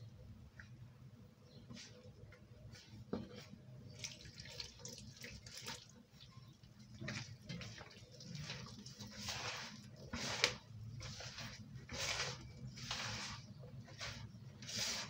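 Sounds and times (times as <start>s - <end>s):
hand squishing dough in bowl: 1.6s - 15.0s.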